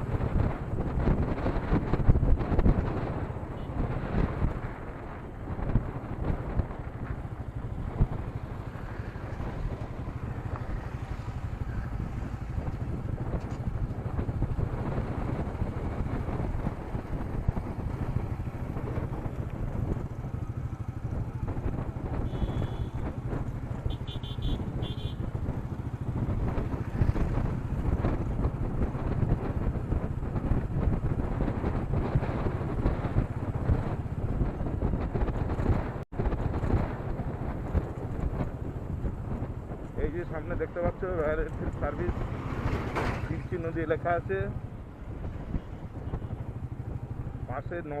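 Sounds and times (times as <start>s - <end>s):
motorcycle engine running: 0.0s - 48.0s
wind noise: 0.0s - 48.0s.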